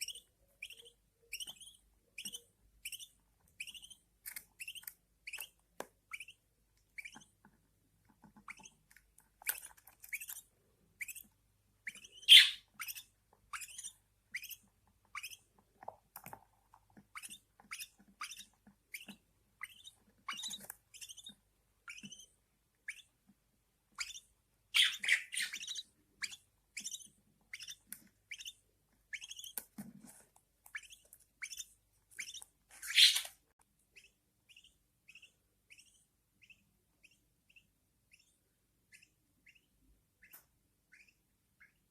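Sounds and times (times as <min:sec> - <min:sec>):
chicks cheeping: 0:00.0 - 0:07.4, 0:08.2 - 0:16.3, 0:17.1 - 0:23.2, 0:23.9 - 0:41.9.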